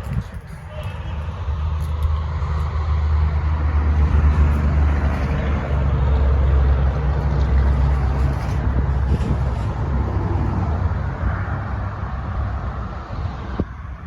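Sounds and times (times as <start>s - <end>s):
large vehicle engine rumbling: 0.0s - 14.0s.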